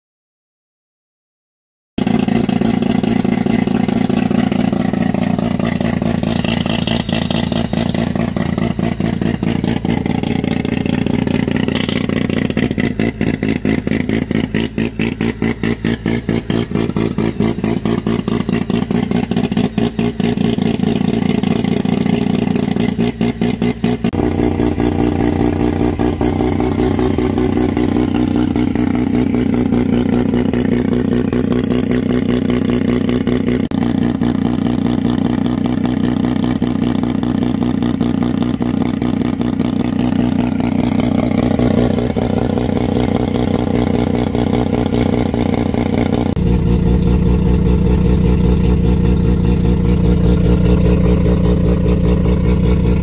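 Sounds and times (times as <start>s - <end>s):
rotary engine idling: 2.0s - 53.0s.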